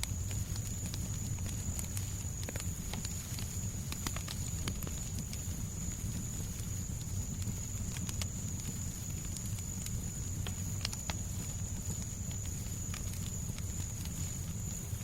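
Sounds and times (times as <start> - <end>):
fireplace crackling and popping: 0.0 - 15.0
low rumble of white noise: 0.0 - 15.0.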